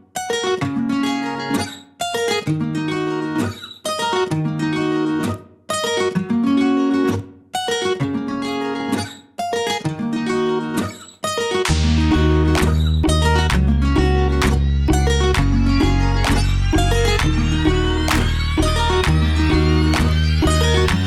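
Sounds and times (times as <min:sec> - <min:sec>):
acoustic guitar plucked and strummed: 0:00.0 - 0:21.0.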